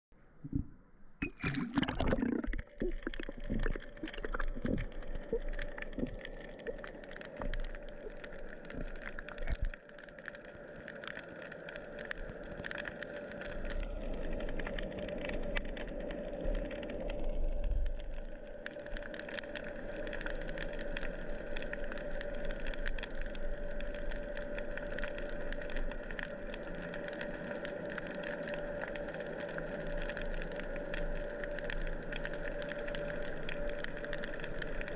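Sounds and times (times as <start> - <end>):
underwater hum: 0.2 - 34.9
water splashing around camera: 0.4 - 34.9
crackle of faint clicks: 2.3 - 34.9.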